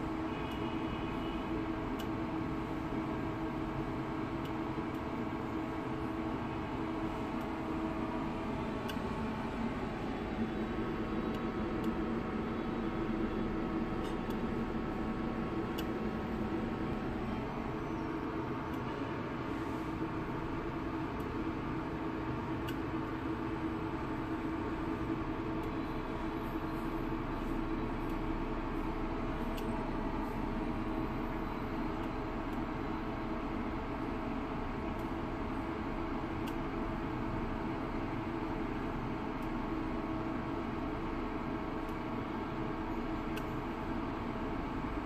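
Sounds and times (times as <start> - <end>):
cooling fan whirring: 0.0 - 45.0
induction cooker humming: 0.0 - 45.0.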